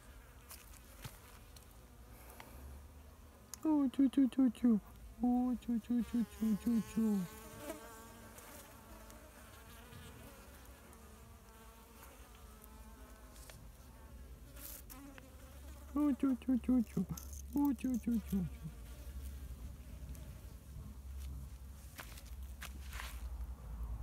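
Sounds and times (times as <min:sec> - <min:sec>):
wasps and bees buzzing: 0:00.0 - 0:21.1.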